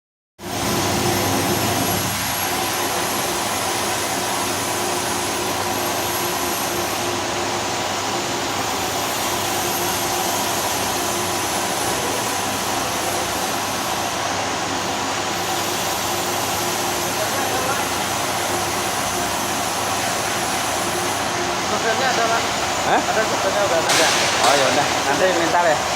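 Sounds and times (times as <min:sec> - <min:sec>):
machinery hiss and hum: 0:00.4 - 0:25.9.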